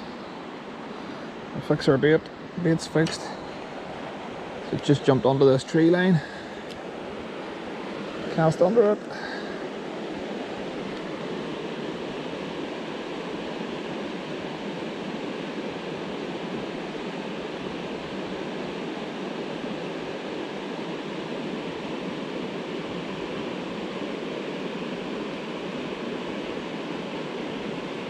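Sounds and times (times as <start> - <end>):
river water flowing: 0.0 - 28.0.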